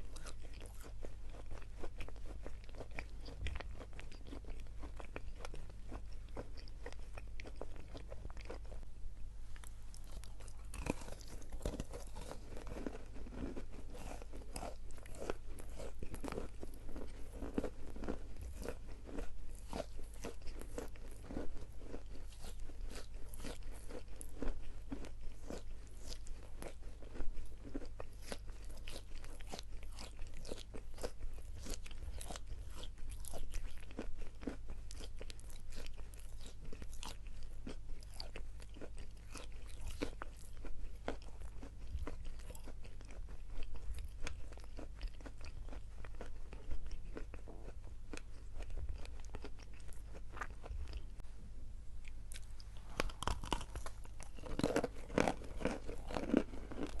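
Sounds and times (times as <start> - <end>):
person chewing crunchy chalk: 0.0 - 8.9, 9.5 - 51.2, 52.0 - 57.0.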